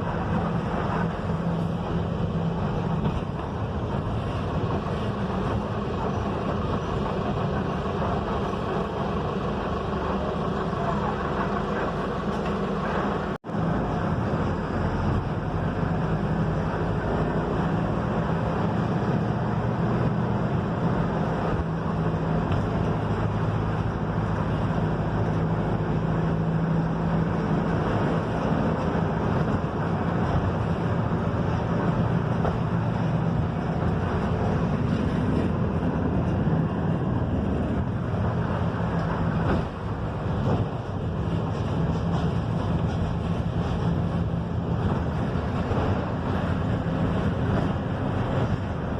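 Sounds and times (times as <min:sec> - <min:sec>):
bus diesel engine drone: 0:00.0 - 0:48.9
road and wind noise: 0:00.0 - 0:48.9.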